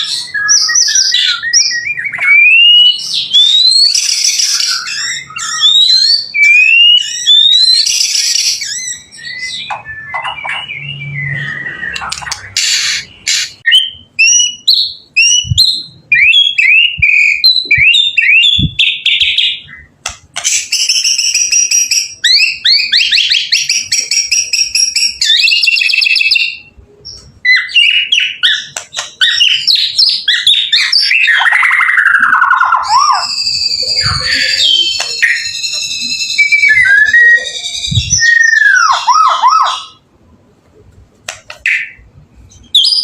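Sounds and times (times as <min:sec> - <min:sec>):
bird song of whistles and trills: 0:00.0 - 0:40.0, 0:41.6 - 0:43.0.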